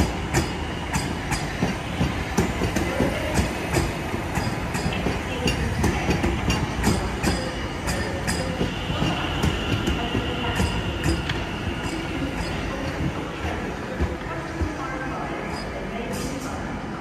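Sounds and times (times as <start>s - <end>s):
train wheels clicking over rail joints: 0.0s - 14.8s.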